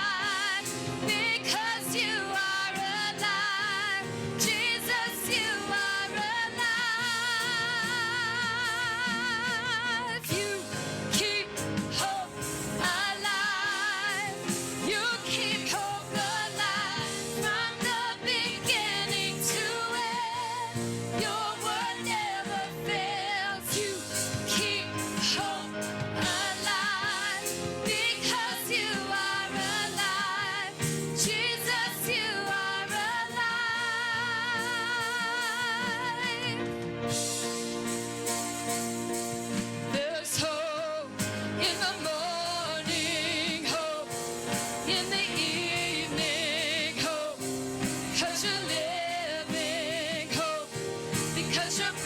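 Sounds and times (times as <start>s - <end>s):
band playing: 0.0s - 52.0s.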